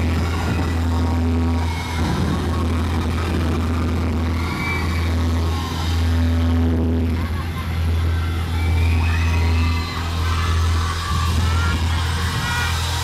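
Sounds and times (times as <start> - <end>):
loud steady bass drone: 0.0 - 13.0.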